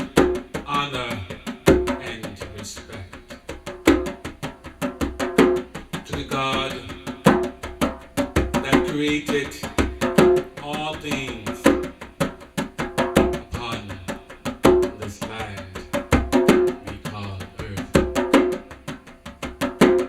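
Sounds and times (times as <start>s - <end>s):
deep drum beat: 0.0s - 20.0s
fast drum rhythm: 0.0s - 20.0s.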